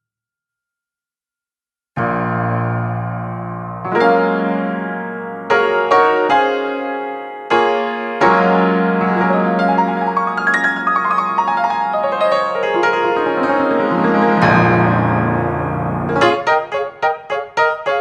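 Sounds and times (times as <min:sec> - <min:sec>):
upright piano playing: 0:02.0 - 0:18.0.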